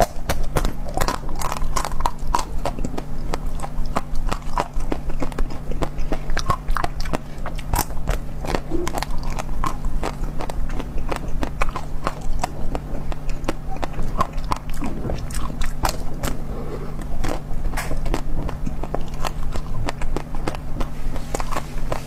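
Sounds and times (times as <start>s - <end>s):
biting and chewing: 0.0s - 22.0s
faint steady hum: 0.0s - 22.0s
mouth clicks and smacks: 0.0s - 22.0s.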